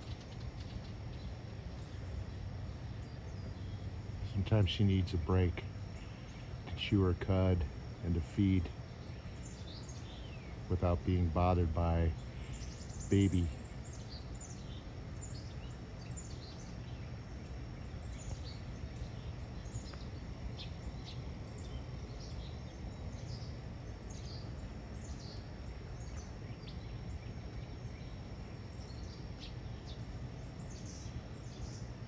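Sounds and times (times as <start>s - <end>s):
bird chirps: 0.0s - 31.9s
high insect tone: 0.0s - 32.0s
low background rumble: 0.0s - 32.0s.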